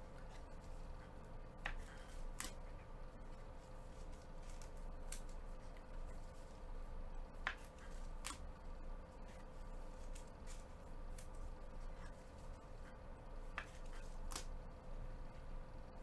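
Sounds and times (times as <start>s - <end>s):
steady faint hum: 0.0s - 16.0s.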